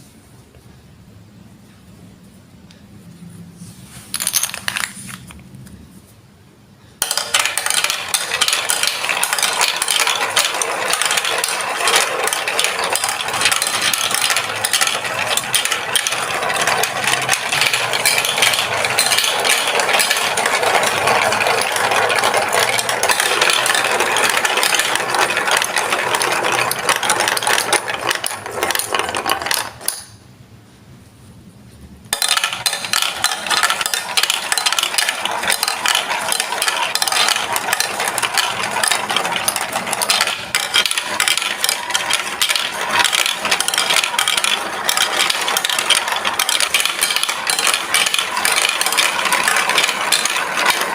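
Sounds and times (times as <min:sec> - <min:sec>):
marbles rattling down plastic track: 0:04.1 - 0:05.3, 0:07.0 - 0:30.1, 0:32.1 - 0:50.9.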